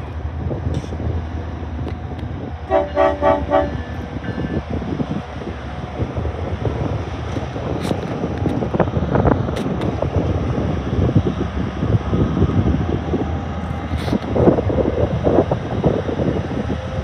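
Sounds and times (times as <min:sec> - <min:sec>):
diesel locomotives rumbling: 0:00.0 - 0:17.0
wind buffeting microphone: 0:00.0 - 0:17.0.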